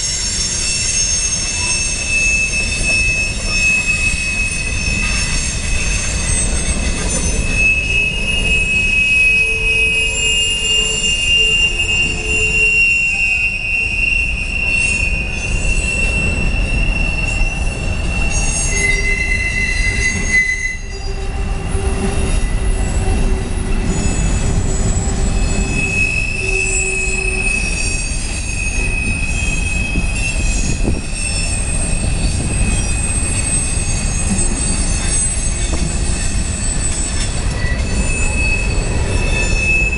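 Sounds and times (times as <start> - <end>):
train rumble: 0.0 - 39.9
train wheels squealing: 0.0 - 39.9.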